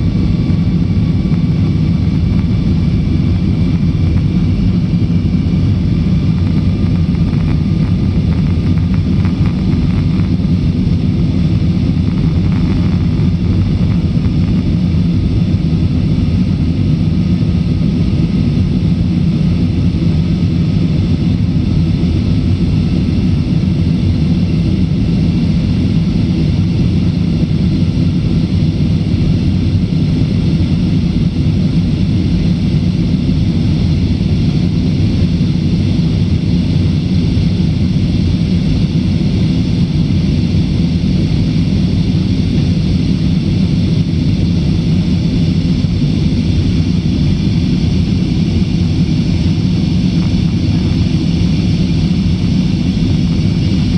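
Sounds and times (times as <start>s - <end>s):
airflow over fuselage: 0.0s - 53.9s
airliner cabin engine rumble: 0.0s - 53.9s.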